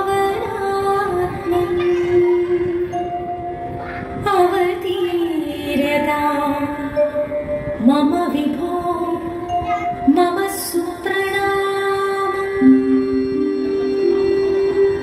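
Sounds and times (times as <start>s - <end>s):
woman singing: 0.0s - 3.2s, 4.1s - 15.0s
music: 0.0s - 15.0s.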